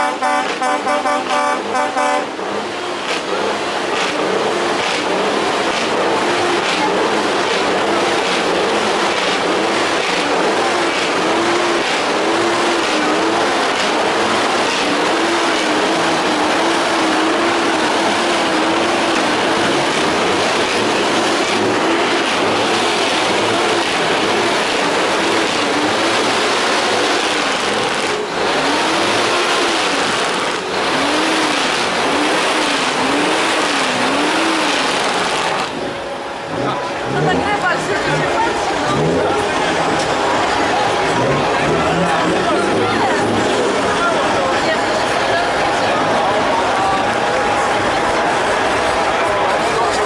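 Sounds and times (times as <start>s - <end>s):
truck engines: 0.0s - 50.0s.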